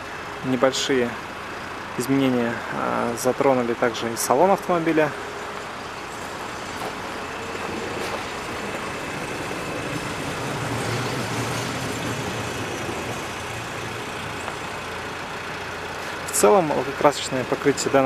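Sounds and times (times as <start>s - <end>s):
passing vehicles rushing: 0.0s - 18.0s
vehicle engine low hum: 0.0s - 18.0s.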